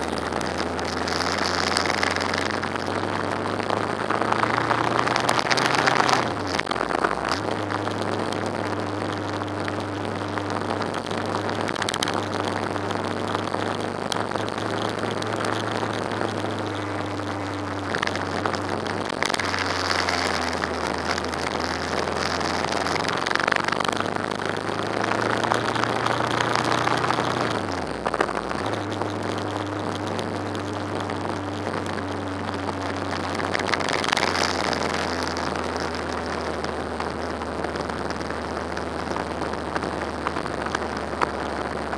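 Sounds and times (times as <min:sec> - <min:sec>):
motorcycle engine cruising: 0:00.0 - 0:41.9
wind noise on microphone: 0:00.0 - 0:41.9.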